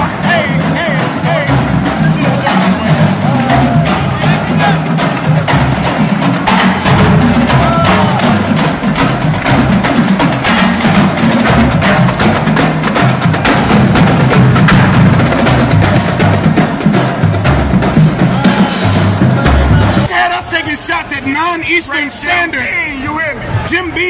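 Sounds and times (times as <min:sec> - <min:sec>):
snare and tenor drum strokes: 0:00.0 - 0:20.2
cymbals: 0:00.0 - 0:20.6.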